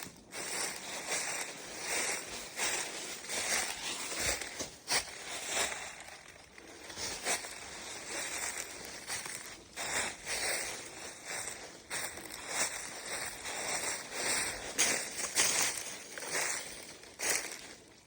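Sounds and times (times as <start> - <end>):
footsteps crunching outdoors: 0.0 - 18.0.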